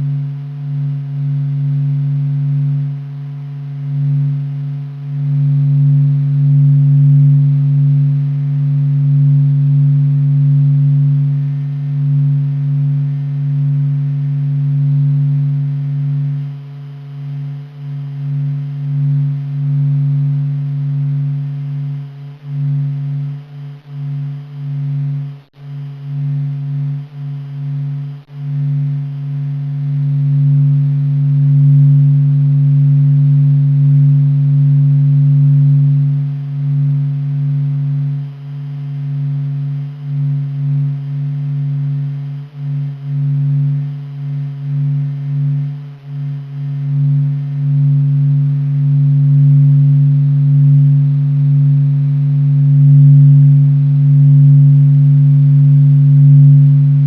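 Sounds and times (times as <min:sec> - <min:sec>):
faint higher tone: 0:00.0 - 0:57.0
low steady hum: 0:00.0 - 0:57.0.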